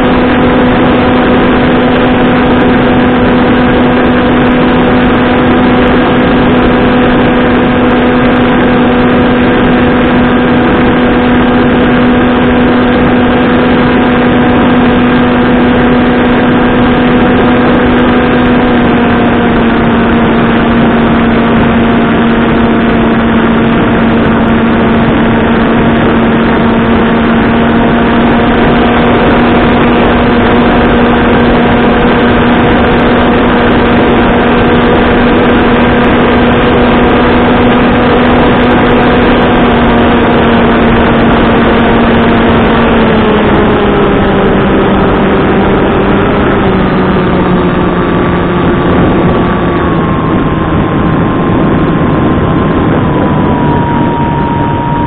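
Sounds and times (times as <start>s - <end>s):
electric motor and propeller drone: 0.0s - 55.0s
wind rush: 0.0s - 55.0s.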